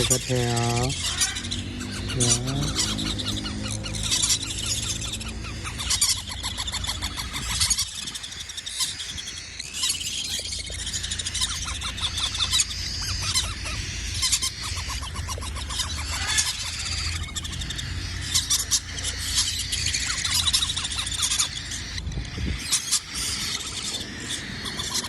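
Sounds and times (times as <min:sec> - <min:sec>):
cockatiel chicks calling: 0:00.0 - 0:25.0.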